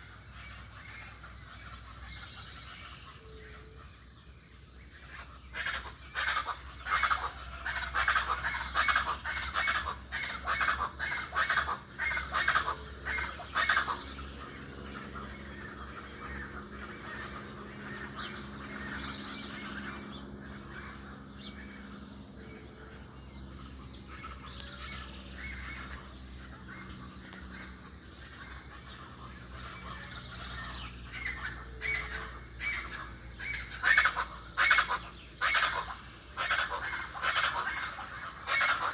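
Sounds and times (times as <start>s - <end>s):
birds chirping and twittering: 0.0s - 38.9s
birds squawking: 0.0s - 38.9s.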